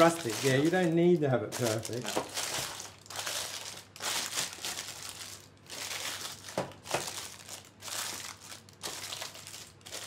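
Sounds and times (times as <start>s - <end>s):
baking paper crinkling: 0.0s - 10.0s
sharp paper crackles: 0.0s - 10.0s.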